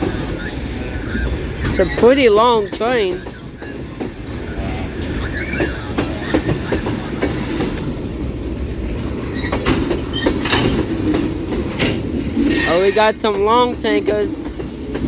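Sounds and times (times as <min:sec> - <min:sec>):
freight train rumbling past: 0:00.0 - 0:15.0
wheels clacking over rail joints: 0:00.0 - 0:15.0.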